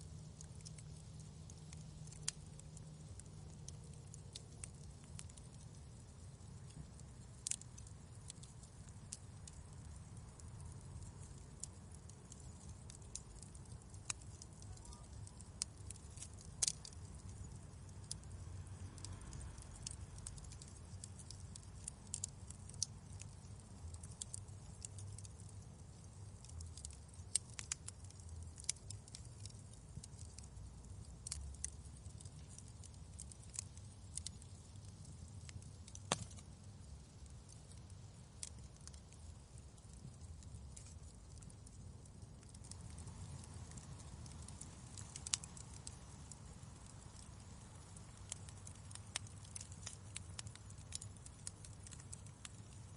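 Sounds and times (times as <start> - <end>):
faint low rumble: 0.0 - 52.9
wood fire crackling: 0.0 - 52.9.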